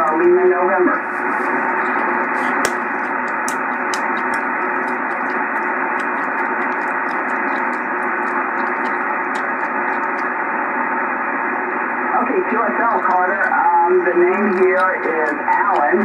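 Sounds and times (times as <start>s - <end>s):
radio receiver static hiss: 0.0s - 16.0s.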